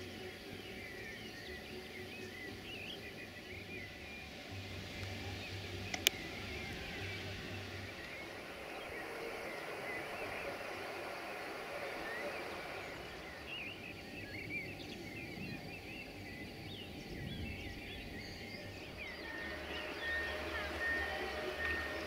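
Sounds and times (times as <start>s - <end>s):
outdoor background hiss: 0.0s - 22.0s
small birds chirping: 0.0s - 22.0s.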